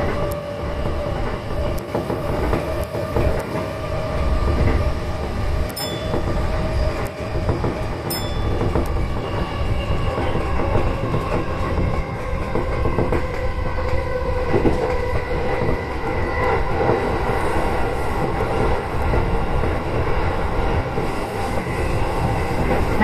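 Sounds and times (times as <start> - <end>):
wheels rumbling on rails: 0.0 - 23.0.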